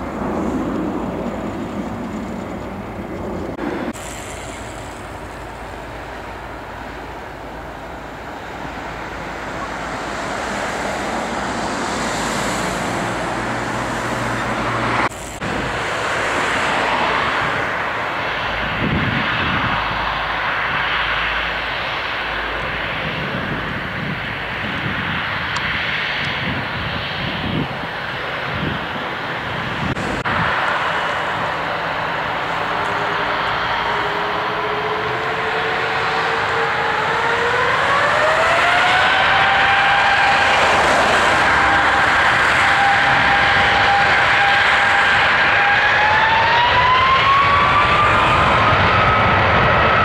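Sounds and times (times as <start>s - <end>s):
jet engines taxiing: 0.0s - 50.0s.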